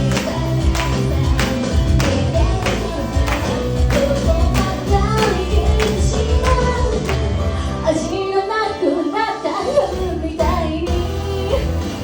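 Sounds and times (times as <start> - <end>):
pop beat and bass: 0.0 - 8.4, 9.5 - 12.0
woman singing: 0.0 - 12.0.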